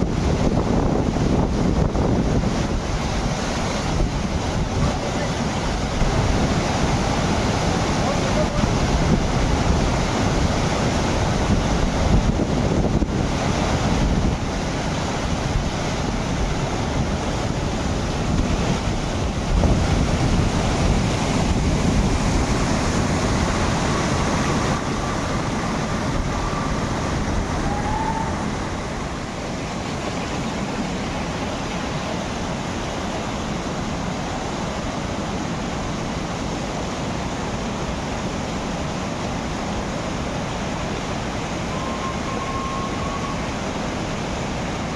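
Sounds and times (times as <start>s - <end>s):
flowing water rushing: 0.0s - 44.9s.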